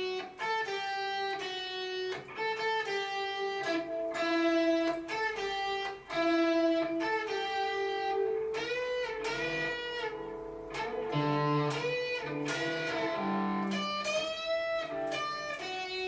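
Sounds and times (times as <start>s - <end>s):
electric guitar solo with string bends: 0.0s - 16.0s.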